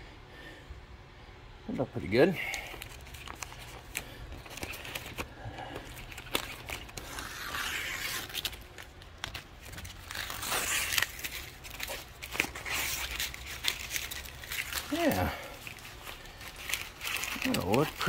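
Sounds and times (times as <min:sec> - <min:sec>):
steady low hum: 0:00.0 - 0:18.0
plastic trim handling scrapes: 0:02.6 - 0:18.0.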